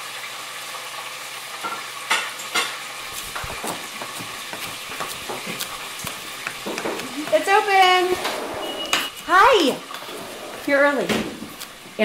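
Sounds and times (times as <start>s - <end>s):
food sizzling in hot oil: 0.0s - 12.0s
kitchen utensils clinking: 1.6s - 12.0s
utensils clattering and knocking: 1.6s - 12.0s.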